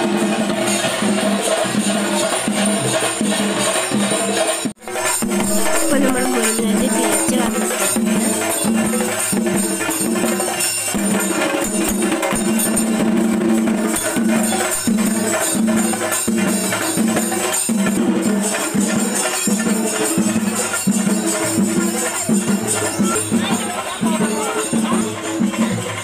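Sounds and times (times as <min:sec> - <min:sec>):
hand drum beating rhythm: 0:00.0 - 0:26.0
jingling metal percussion: 0:00.0 - 0:26.0.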